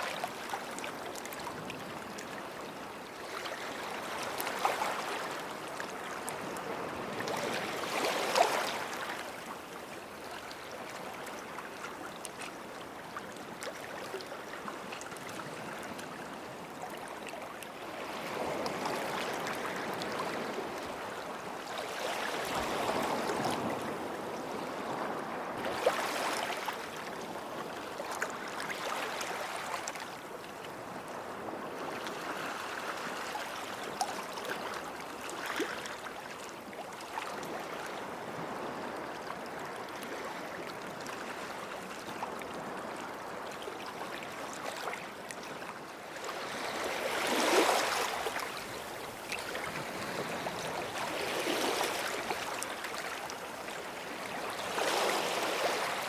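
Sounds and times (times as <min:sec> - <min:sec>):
small waves washing on beach: 0:00.0 - 0:56.0.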